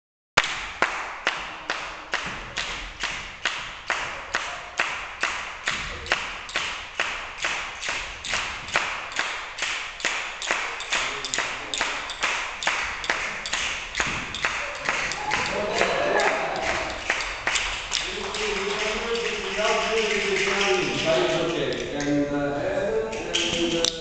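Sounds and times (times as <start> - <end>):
group clapping in unison: 0.4 - 22.1.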